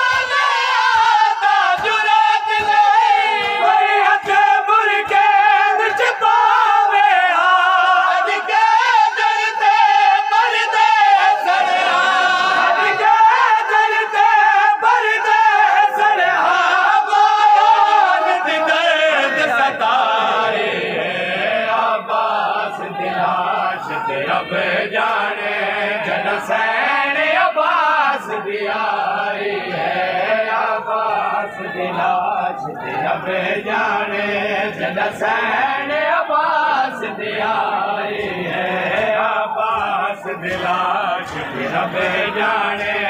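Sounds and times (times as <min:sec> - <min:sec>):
crowd of men chanting: 0:00.0 - 0:43.0.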